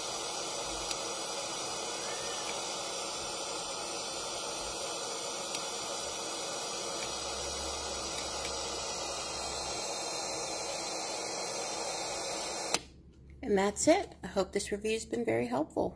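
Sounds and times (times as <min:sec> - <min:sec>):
white noise machine: 0:00.0 - 0:12.9.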